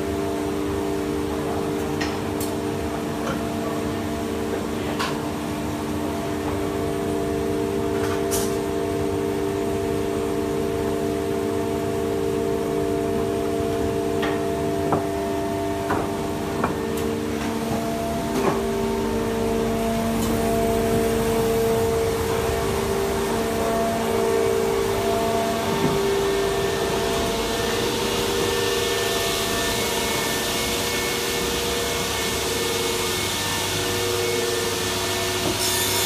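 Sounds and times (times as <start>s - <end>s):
workshop machinery humming: 0.0s - 36.0s.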